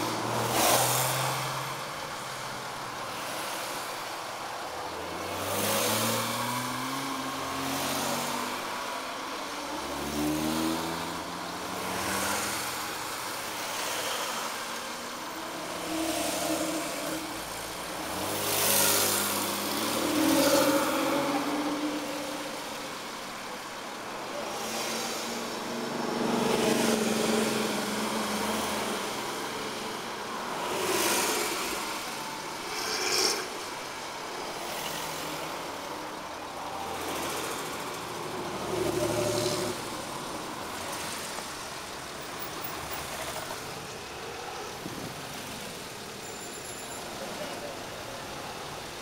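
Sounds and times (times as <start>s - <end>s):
cars driving past: 0.0s - 49.0s.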